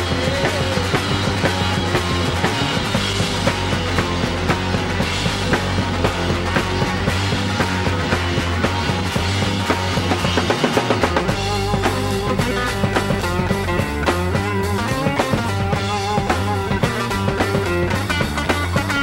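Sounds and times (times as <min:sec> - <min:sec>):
busy drum kit: 0:00.0 - 0:19.0
electric bass guitar: 0:00.0 - 0:19.0
electric guitar lead lines: 0:00.0 - 0:19.0.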